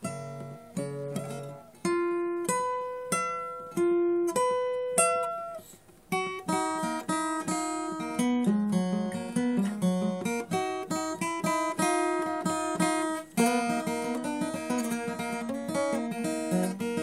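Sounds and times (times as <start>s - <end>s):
acoustic guitar melody: 0.0s - 17.0s.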